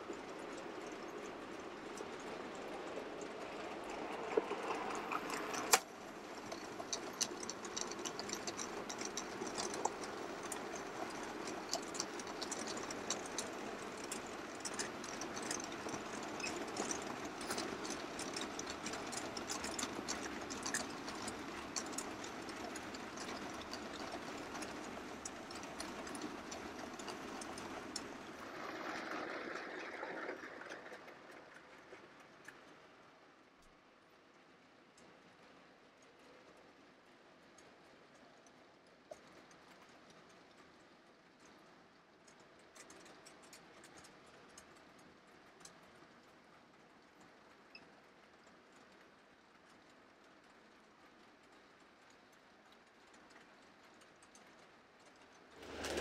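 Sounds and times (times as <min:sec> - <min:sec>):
wagons clicking over rail joints: 0:00.0 - 0:33.2, 0:35.0 - 0:56.0.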